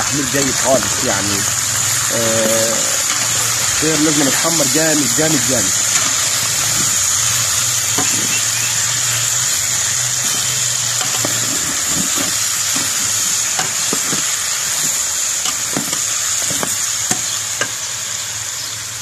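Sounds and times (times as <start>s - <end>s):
birds frying in oil sizzling: 0.0s - 19.0s
metal spoon scraping a pan: 1.9s - 17.9s.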